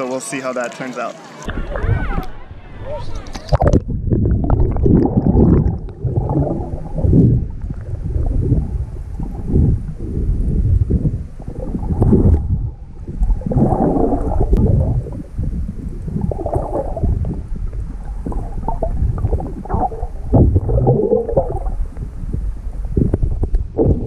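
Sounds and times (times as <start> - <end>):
underwater rumbling and gurgling: 1.5 - 24.0.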